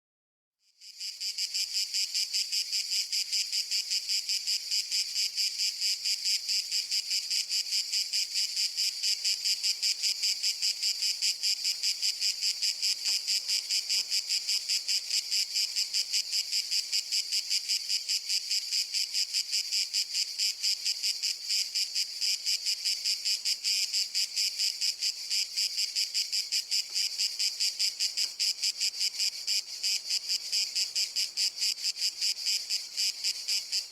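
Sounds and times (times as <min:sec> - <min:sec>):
cicada buzzing song: 0:00.7 - 0:33.9.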